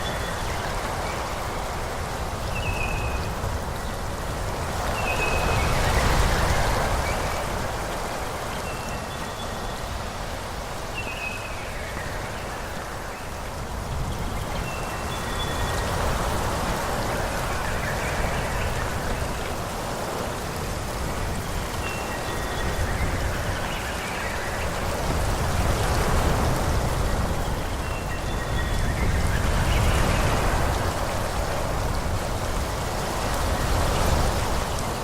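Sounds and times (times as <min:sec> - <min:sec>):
low wind rumble: 0:00.0 - 0:35.0
wind rushing through trees: 0:00.0 - 0:35.0.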